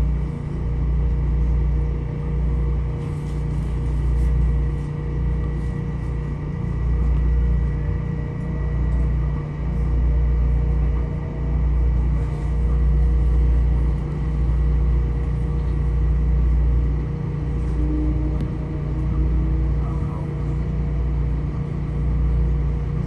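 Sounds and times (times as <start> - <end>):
faint steady whine: 0.0 - 23.0.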